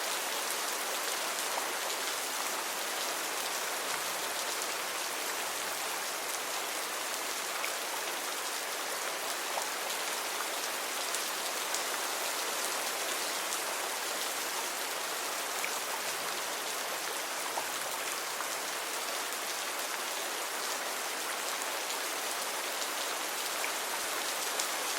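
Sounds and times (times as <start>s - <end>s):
steady rain hiss: 0.0s - 24.9s.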